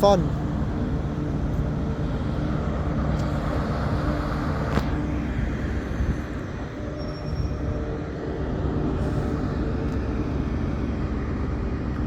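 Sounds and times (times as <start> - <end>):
diesel train engine humming: 0.0 - 12.0.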